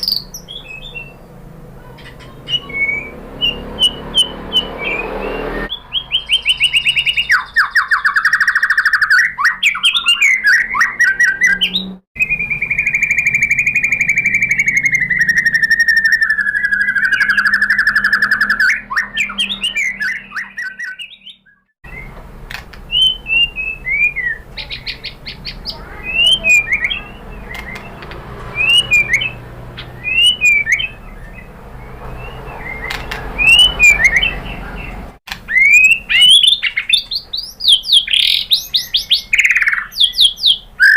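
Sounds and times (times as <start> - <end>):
bird singing trills and whistles: 0.0 - 22.2, 22.8 - 40.9.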